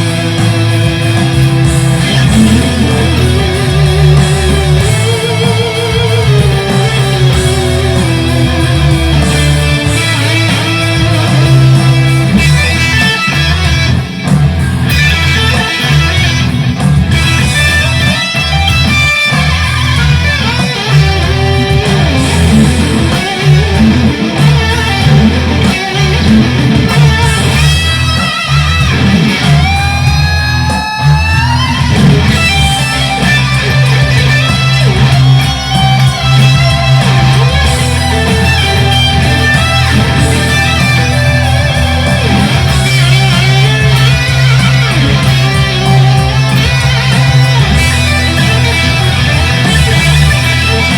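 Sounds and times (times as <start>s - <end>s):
electric guitar lead lines: 0.0s - 50.9s
low accompaniment: 0.0s - 50.9s.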